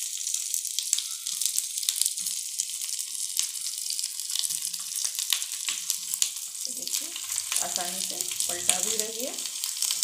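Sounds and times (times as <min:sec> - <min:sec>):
cheese sizzling in hot oil: 0:00.0 - 0:10.0.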